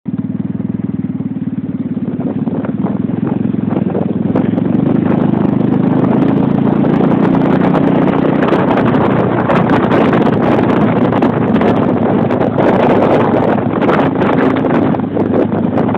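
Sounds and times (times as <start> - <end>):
motorcycle engine running: 0.1 - 15.9
wind noise on microphone: 0.1 - 15.9.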